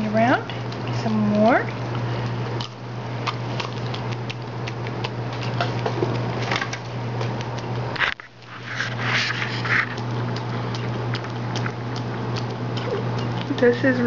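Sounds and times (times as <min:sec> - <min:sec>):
dog lip-smacking and tongue clicks: 0:00.5 - 0:13.8.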